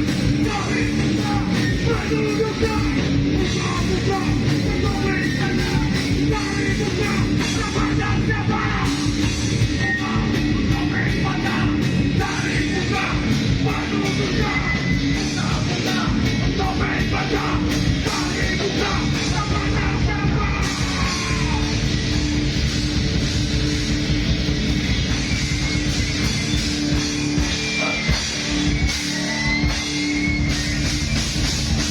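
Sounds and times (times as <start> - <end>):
loud distorted rock band: 0.0 - 31.9
yelled vocals: 0.0 - 31.9.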